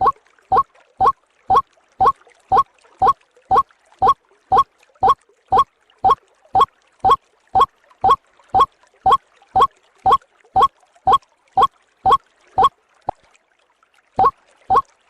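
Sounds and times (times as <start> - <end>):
waterhen call: 0.0 - 11.2, 12.1 - 12.7, 14.2 - 14.8.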